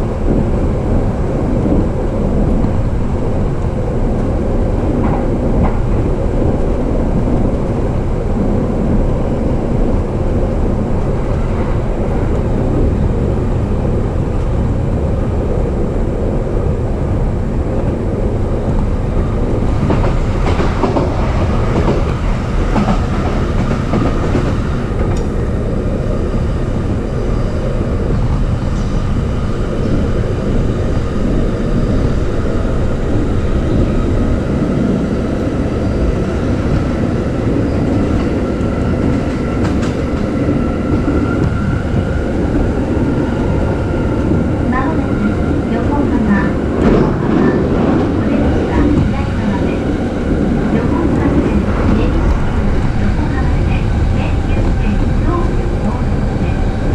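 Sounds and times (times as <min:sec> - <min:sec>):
train clatter: 0:00.0 - 0:14.8, 0:18.6 - 0:25.4, 0:26.8 - 0:56.9
train wheels rumbling on rails: 0:00.0 - 0:56.9.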